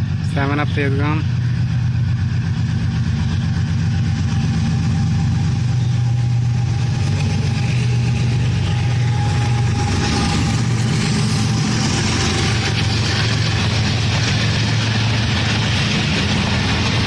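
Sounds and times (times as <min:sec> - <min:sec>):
locomotive engine droning: 0:00.0 - 0:17.0.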